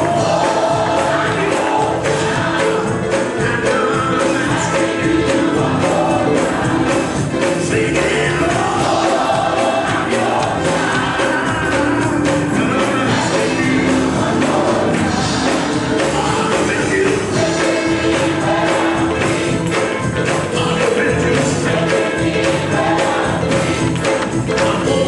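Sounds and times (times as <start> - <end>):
choir singing gospel music: 0.0 - 25.0
steady percussion beat: 0.0 - 25.0.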